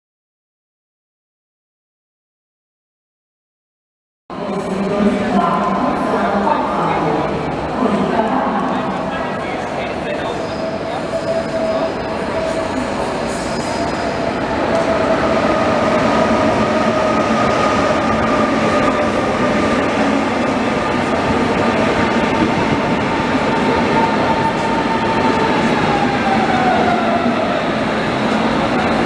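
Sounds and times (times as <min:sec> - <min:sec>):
high train whine: 0:04.3 - 0:29.0.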